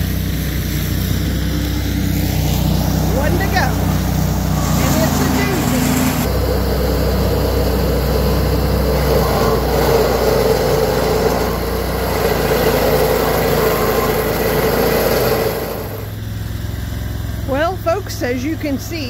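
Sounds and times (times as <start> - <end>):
stump grinder grinding: 0.0 - 19.0.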